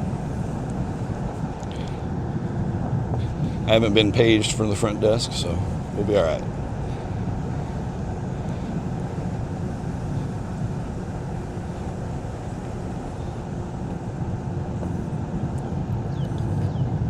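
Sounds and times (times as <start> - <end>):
electric board rolling on trail: 0.0 - 17.0
wind rumble on microphone: 0.0 - 17.0.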